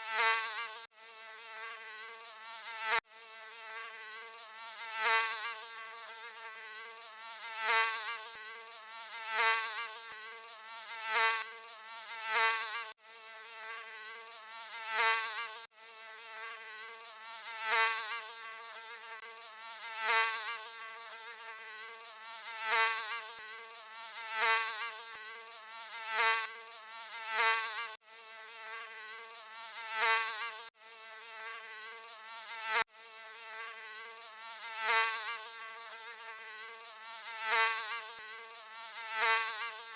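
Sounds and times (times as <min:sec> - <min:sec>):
mosquito buzzing whine: 0:00.0 - 0:39.9.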